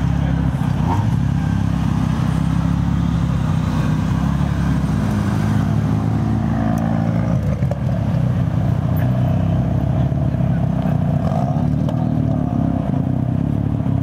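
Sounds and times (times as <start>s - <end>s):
car engine deep drone: 0.0s - 14.0s.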